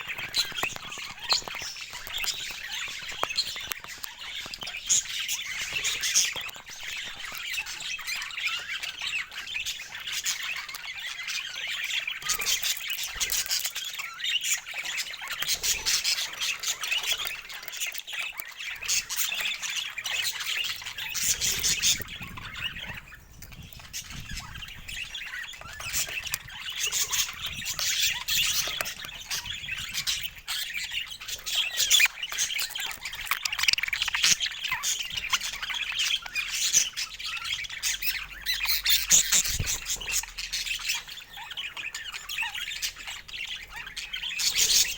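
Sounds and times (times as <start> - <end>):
budgies chattering: 0.0 - 44.9.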